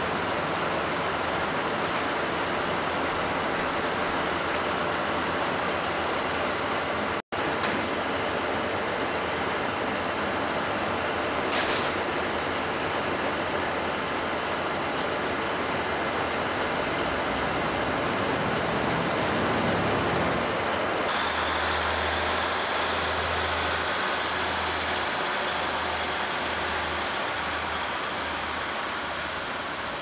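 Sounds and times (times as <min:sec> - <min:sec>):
diesel railcar rushing past: 0:00.0 - 0:30.0.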